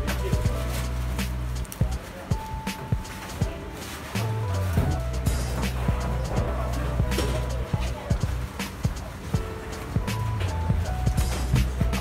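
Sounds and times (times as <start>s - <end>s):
deep bass line: 0.0s - 3.6s, 4.2s - 12.0s
music with steady beat: 0.0s - 12.0s.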